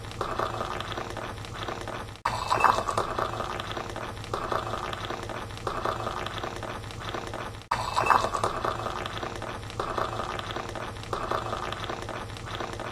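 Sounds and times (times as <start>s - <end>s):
tea pouring into a cup: 0.0s - 12.9s.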